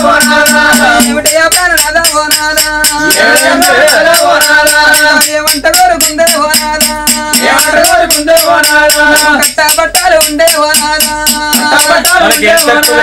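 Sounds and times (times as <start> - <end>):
jingling percussion beat: 0.0 - 13.0.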